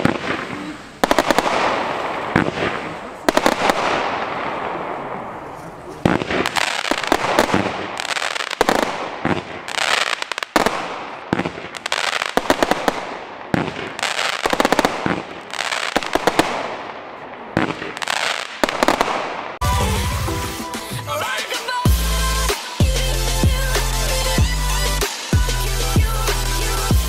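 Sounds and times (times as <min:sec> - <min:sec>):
fireworks crackling: 0:00.0 - 0:27.0
fireworks shots and bursts: 0:00.0 - 0:27.0.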